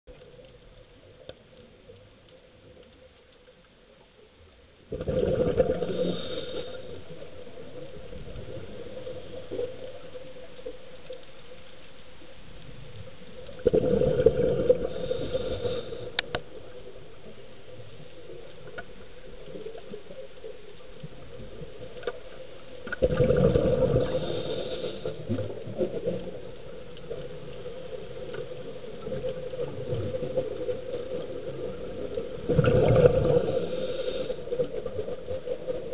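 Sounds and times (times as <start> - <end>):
low underwater hum: 0.0 - 35.9.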